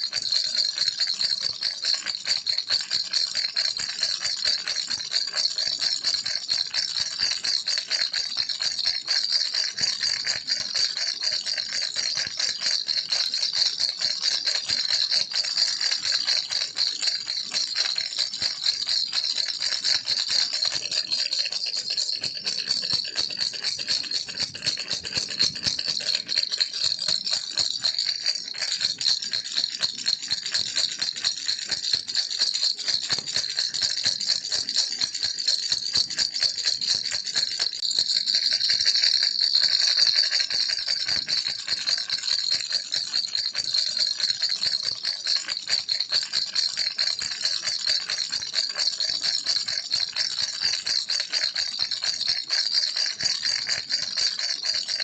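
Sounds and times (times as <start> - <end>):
toy rattle shaken: 0.0 - 55.0.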